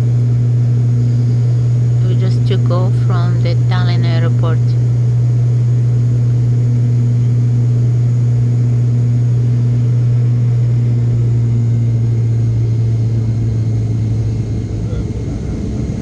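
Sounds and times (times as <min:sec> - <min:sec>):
airliner engines droning: 0:00.0 - 0:16.0.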